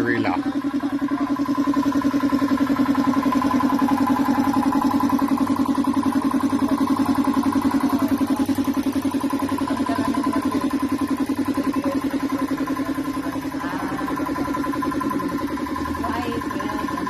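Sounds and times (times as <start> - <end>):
small motor pulsing hum: 0.0 - 17.0.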